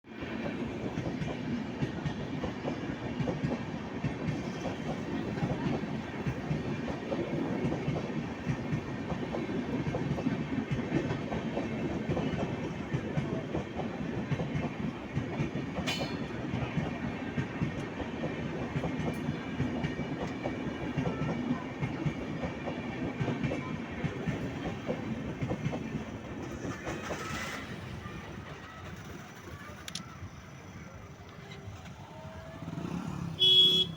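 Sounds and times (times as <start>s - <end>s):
train wheels clattering on rails: 0.2s - 33.9s.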